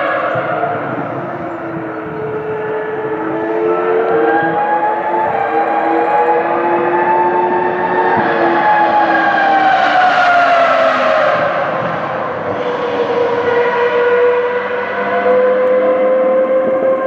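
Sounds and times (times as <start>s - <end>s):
distant high-revving racing engine: 0.0s - 17.0s
lower racing engine note: 0.0s - 17.0s.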